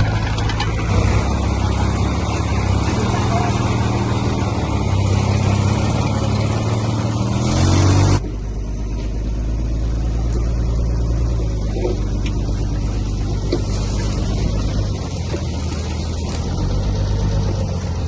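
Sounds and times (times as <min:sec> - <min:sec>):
diesel engine revving: 0:00.0 - 0:18.0
low engine drone: 0:00.0 - 0:18.0.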